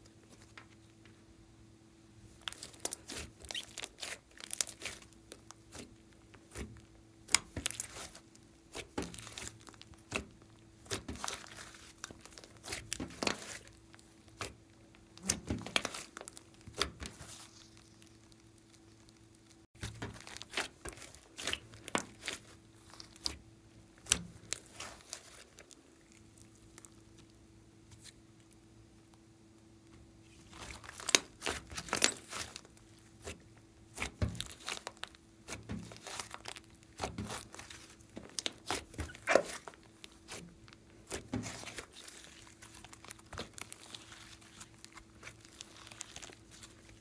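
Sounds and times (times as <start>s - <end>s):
slime squishing: 2.3s - 28.6s, 30.2s - 47.0s.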